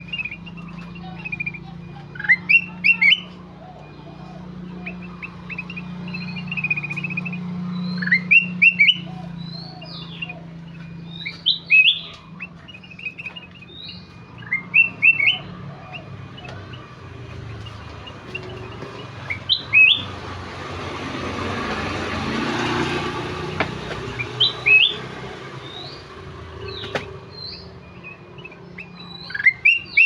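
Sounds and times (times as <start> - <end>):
bulbul whistled song: 0.0 - 20.4, 21.2 - 30.0
bird chattering: 0.0 - 30.0.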